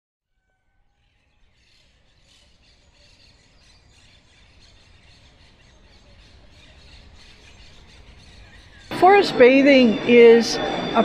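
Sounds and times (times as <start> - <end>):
birds chirping: 1.0 - 11.0.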